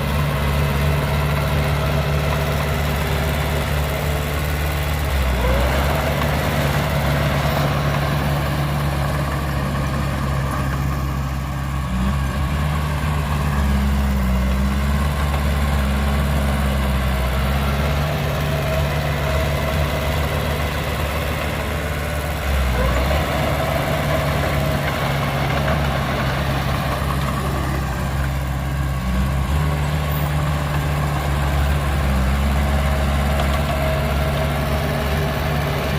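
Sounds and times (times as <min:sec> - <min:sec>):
heavy diesel engines humming: 0:00.0 - 0:35.9.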